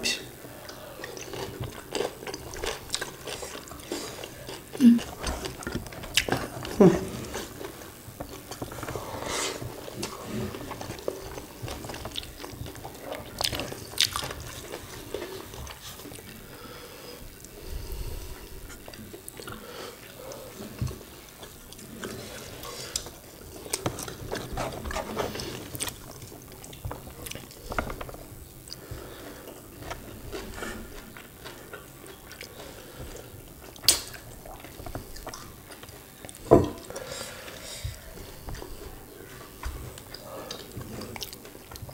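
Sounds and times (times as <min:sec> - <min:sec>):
chewing: 0:00.4 - 0:41.9.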